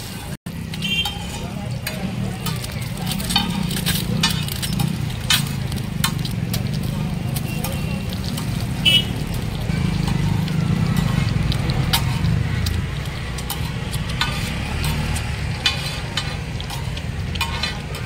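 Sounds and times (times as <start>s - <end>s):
eggs frying in oil: 0.0s - 18.0s
spatula scraping metal pan: 0.9s - 18.0s.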